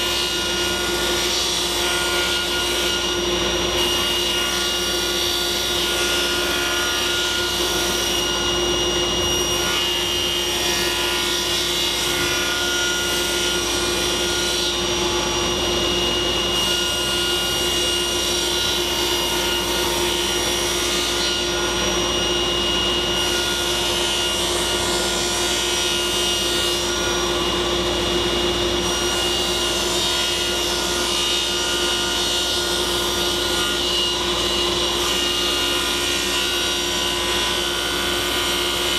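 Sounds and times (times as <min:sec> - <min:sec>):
table saw whining: 0:00.0 - 0:38.9.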